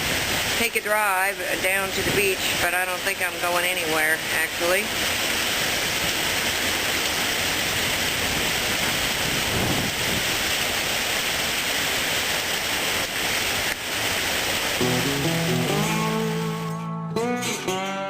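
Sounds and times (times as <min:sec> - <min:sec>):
heavy rain pouring: 0:00.0 - 0:16.8.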